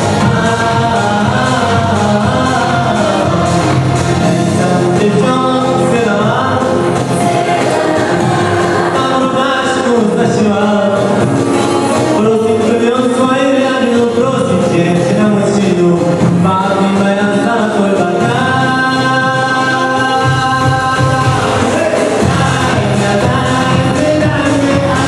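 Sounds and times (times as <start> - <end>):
instrumental accompaniment: 0.0 - 25.0
people singing together: 0.0 - 25.0.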